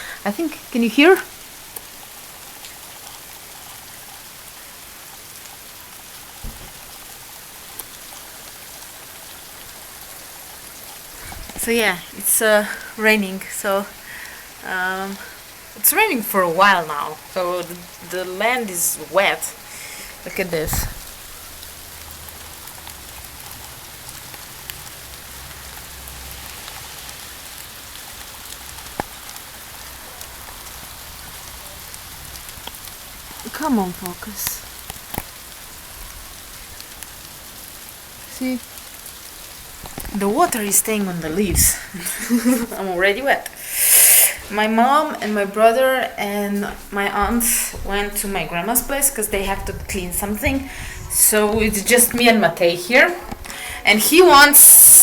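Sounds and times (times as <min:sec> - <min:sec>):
drips and ticks: 0:00.0 - 0:55.0
steady rain falling: 0:00.0 - 0:55.0.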